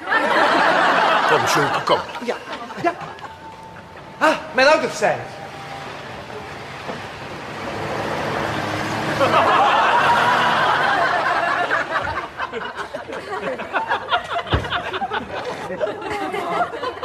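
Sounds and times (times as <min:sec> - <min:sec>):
car driving up: 0:00.0 - 0:16.2.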